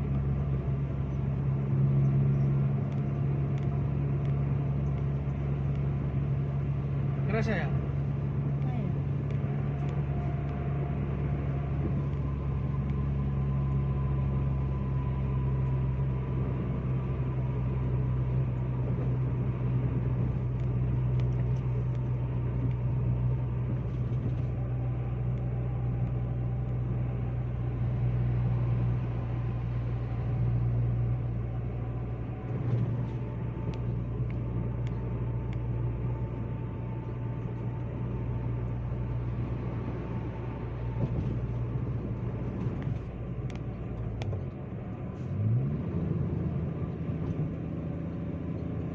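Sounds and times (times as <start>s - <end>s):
car engine and tyre drone: 0.0s - 48.9s.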